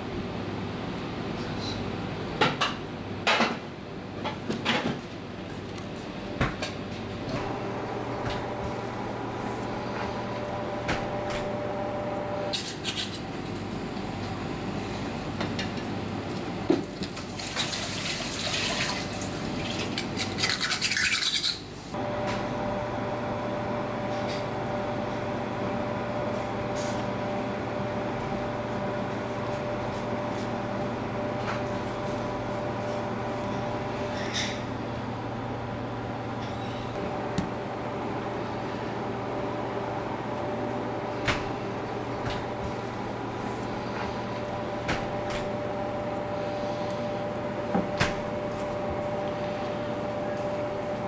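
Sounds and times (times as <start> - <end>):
mechanical hum: 0.0 - 51.0.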